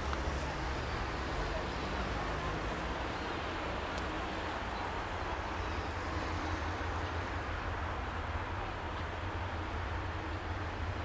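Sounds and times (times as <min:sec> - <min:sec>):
low rumble of approaching train: 0:00.0 - 0:11.0.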